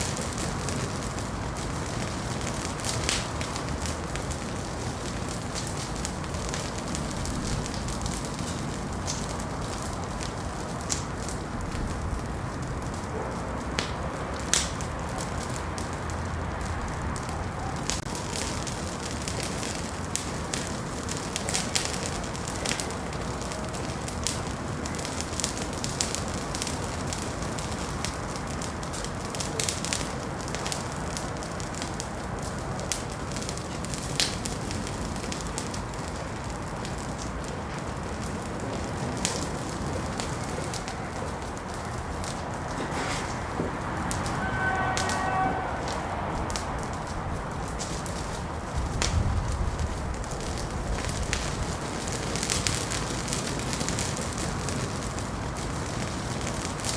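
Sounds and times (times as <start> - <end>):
fire crackling and popping: 0.0 - 56.9
low rush of fire: 0.0 - 56.9.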